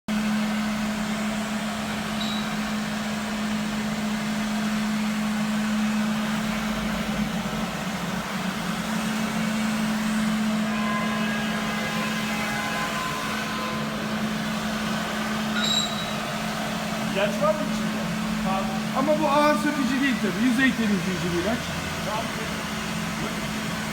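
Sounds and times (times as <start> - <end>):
floor scrubber humming and hissing: 0.2 - 23.9.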